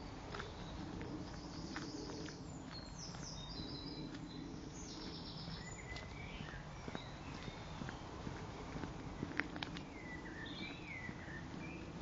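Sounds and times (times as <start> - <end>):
birds singing and trilling: 0.0 - 12.0
low background noise: 0.0 - 12.0.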